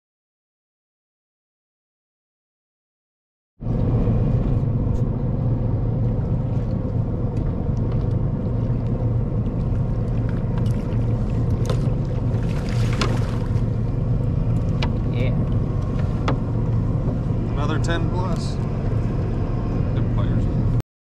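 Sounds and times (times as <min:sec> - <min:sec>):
boat motor idling: 0:03.7 - 0:20.8.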